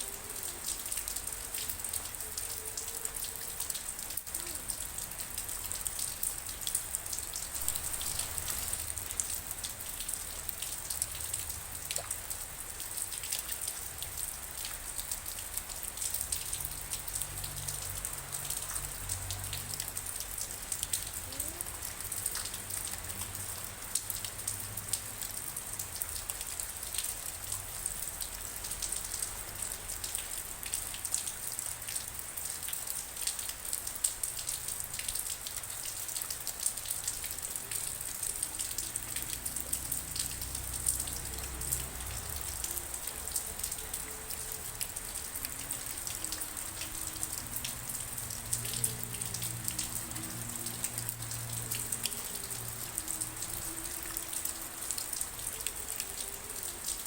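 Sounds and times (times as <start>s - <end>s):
raindrops ticking: 0.0s - 57.0s
steady rain falling: 0.0s - 57.0s.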